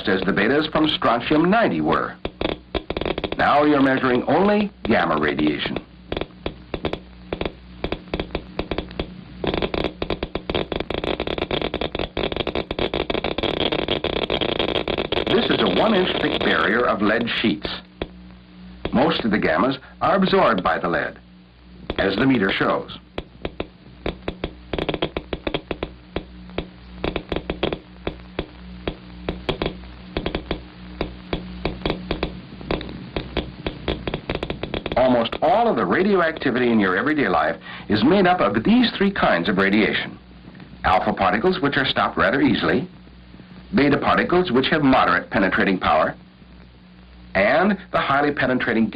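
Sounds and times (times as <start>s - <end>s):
geiger counter clicking: 0.0s - 21.2s, 21.8s - 40.0s
steady hiss: 0.0s - 48.9s.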